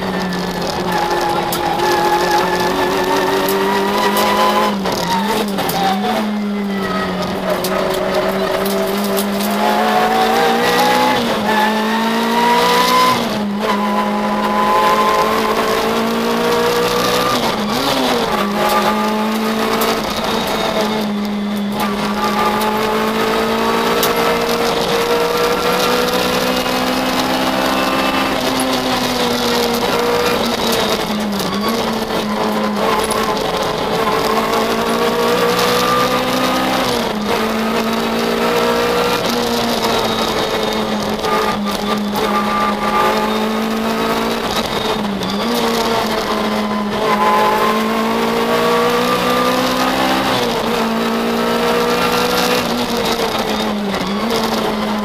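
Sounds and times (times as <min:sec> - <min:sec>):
car engine revving: 0:00.0 - 0:55.0
road and tyre noise: 0:00.0 - 0:55.0.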